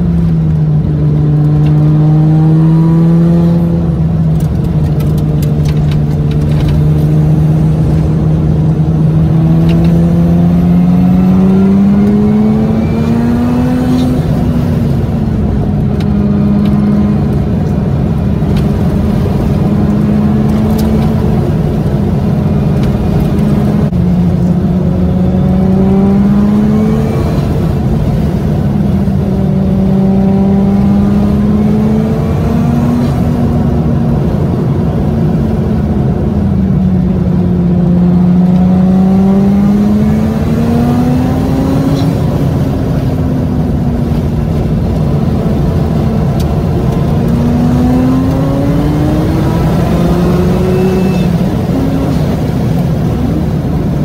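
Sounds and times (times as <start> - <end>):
rotary engine in car cabin: 0.0 - 54.0.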